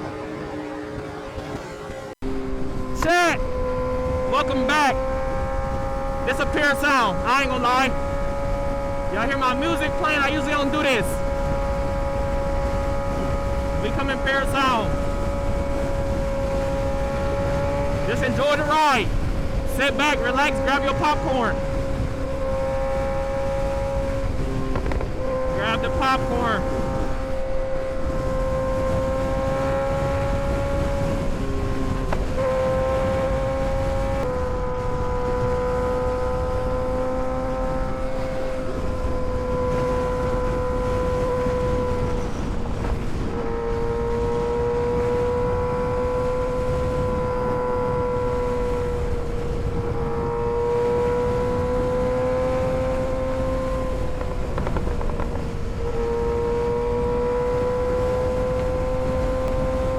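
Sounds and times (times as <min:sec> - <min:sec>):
motorcycle engine droning: 0:00.0 - 0:59.9
road and wind noise: 0:00.0 - 0:59.9.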